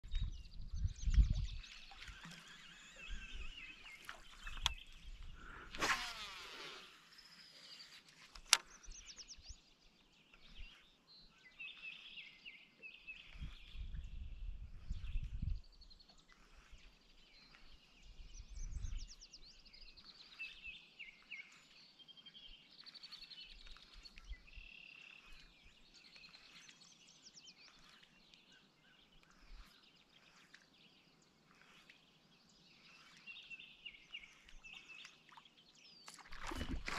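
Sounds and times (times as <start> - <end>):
songbirds chirping and trilling: 0.0 - 36.9.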